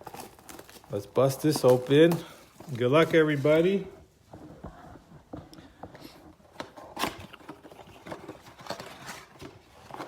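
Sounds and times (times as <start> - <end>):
card wrapper rustling and crinkling: 0.0 - 4.4, 6.0 - 10.0.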